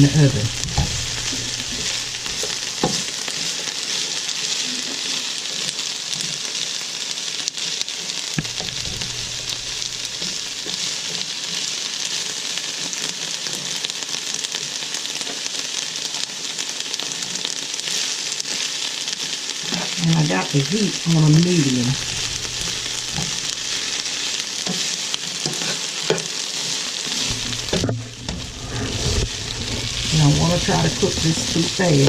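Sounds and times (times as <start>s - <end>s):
peppers sizzling in a pan: 0.0s - 32.0s.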